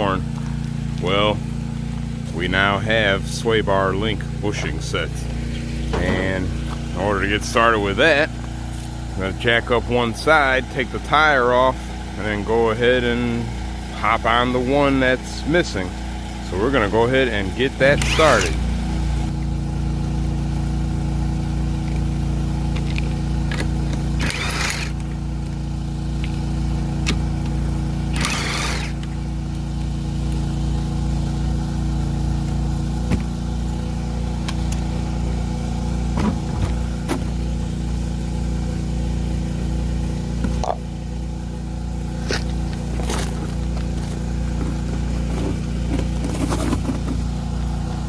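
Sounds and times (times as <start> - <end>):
steady engine-like hum: 0.0 - 48.0.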